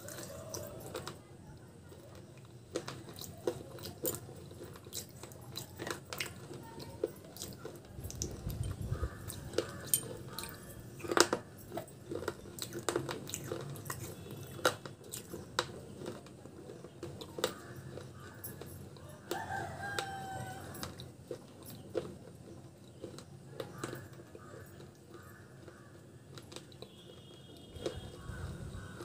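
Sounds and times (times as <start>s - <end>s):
crunching of clay pot pieces: 0.0s - 29.0s.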